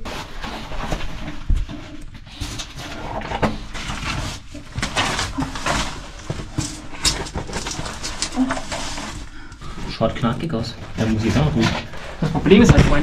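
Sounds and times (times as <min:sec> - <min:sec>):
clothing scraping against rock: 0:02.6 - 0:13.0.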